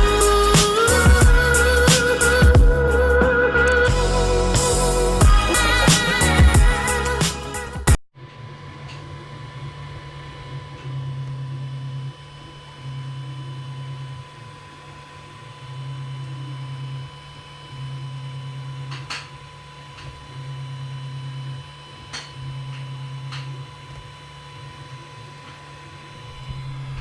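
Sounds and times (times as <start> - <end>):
fan whine: 0.0 - 27.0.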